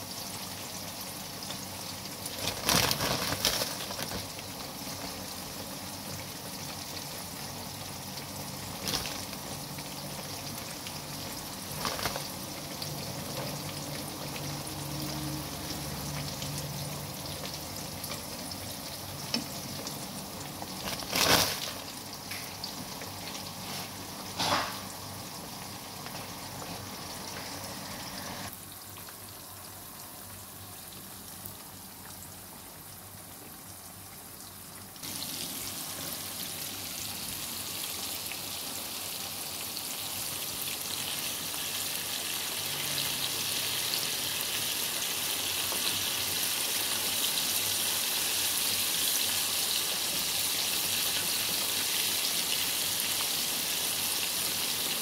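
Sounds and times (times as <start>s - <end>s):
chicken deep-frying in oil: 0.0s - 55.0s.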